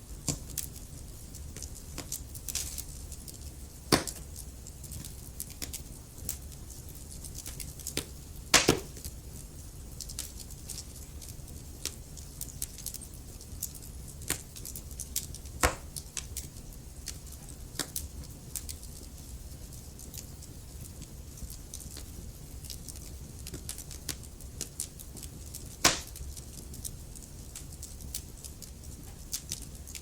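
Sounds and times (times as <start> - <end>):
low rumble of flame: 0.0 - 30.0
logs crackling and popping: 0.1 - 30.0.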